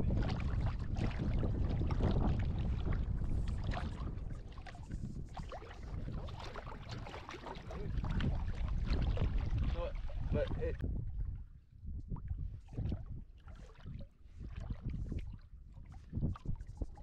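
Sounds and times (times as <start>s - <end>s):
water sloshing around wading legs: 0.0s - 11.4s, 12.5s - 17.0s
wind rumbling on microphone: 0.0s - 17.0s.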